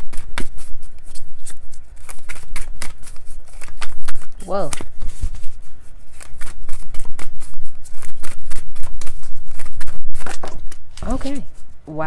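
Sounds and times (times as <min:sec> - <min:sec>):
cards being shuffled by hand: 0:00.0 - 0:11.8.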